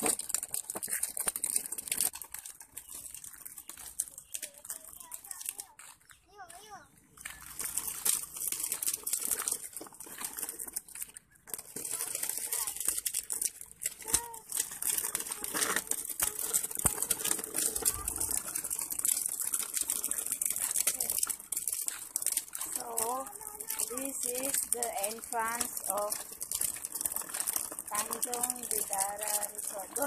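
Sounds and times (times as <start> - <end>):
plastic wheels rolling on asphalt: 0.0 - 30.0.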